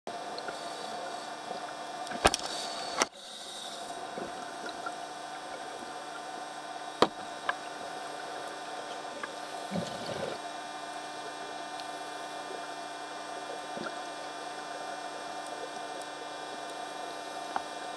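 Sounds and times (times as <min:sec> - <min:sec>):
steady hum with fixed tones: 0:00.1 - 0:17.9.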